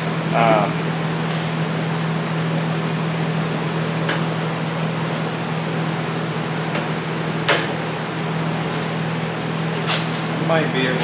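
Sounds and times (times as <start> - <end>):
fan whooshing and humming: 0.0 - 11.0.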